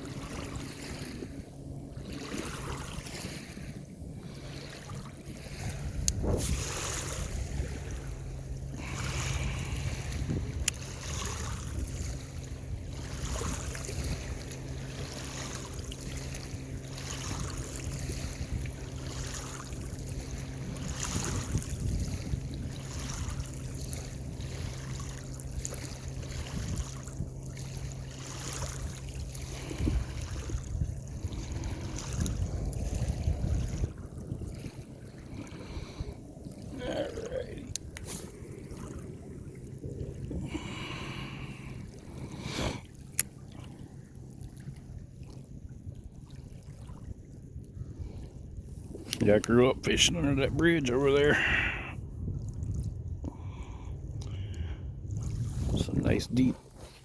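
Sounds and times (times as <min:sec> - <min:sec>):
lapping water: 0:00.0 - 0:45.5, 0:49.1 - 0:57.0
steady low hum: 0:00.0 - 0:57.0
wind buffeting microphone: 0:00.0 - 0:57.0.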